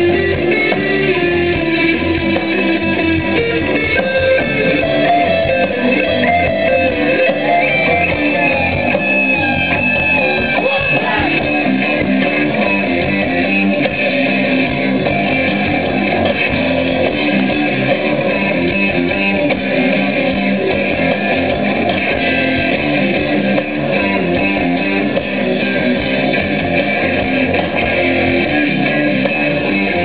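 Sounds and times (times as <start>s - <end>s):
guitar-driven music: 0.0s - 30.0s.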